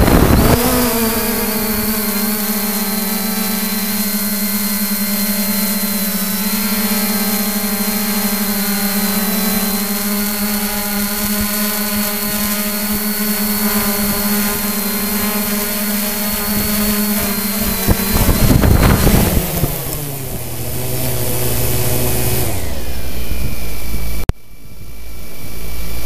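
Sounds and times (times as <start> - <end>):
drone propellers humming: 0.0 - 26.0
drone rough noise in grass: 0.0 - 26.0.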